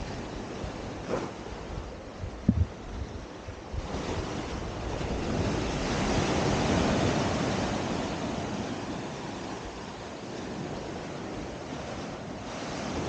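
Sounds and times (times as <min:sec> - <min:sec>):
surf washing in: 0:00.0 - 0:13.0
wind buffeting microphone: 0:00.0 - 0:13.0.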